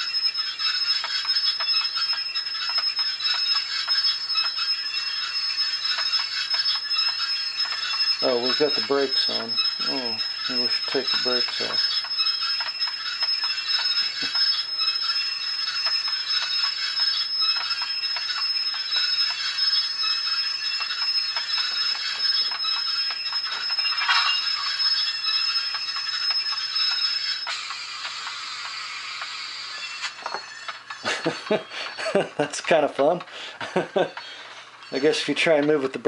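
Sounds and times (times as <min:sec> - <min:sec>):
high brake squeal: 0:00.0 - 0:32.0.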